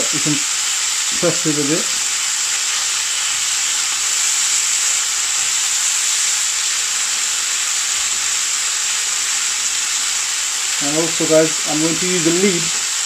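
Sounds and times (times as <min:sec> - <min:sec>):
meat sizzling on a grill pan: 0:00.0 - 0:13.0.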